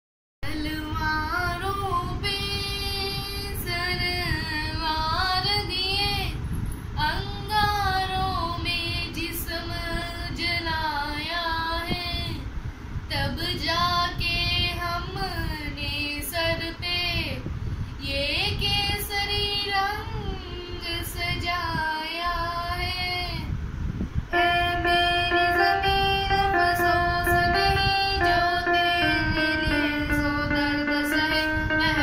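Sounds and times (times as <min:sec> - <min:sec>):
girl singing unaccompanied: 0:00.4 - 0:06.4, 0:07.0 - 0:12.5, 0:13.1 - 0:23.6, 0:24.3 - 0:32.0.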